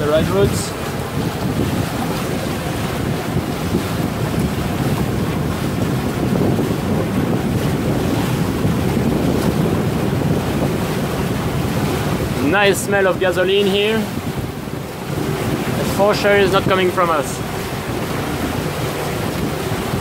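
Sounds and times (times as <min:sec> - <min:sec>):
choppy water slapping hull: 0:00.0 - 0:20.0
wind buffeting microphone: 0:00.0 - 0:20.0.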